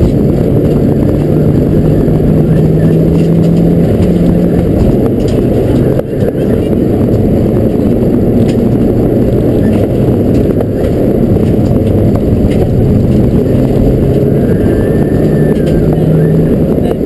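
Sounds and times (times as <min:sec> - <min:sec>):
car engine and road drone: 0:00.0 - 0:17.0
gravel striking car: 0:00.0 - 0:17.0.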